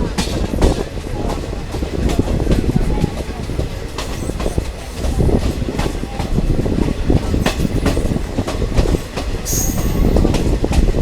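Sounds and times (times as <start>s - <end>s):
train rumbling on track: 0.0s - 11.0s
wheels clicking and knocking: 0.0s - 11.0s.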